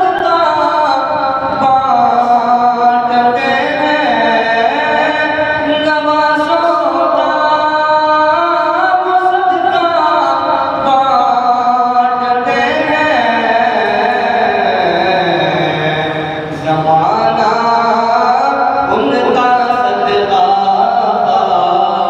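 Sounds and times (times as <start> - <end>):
man singing devotional song: 0.0 - 22.0.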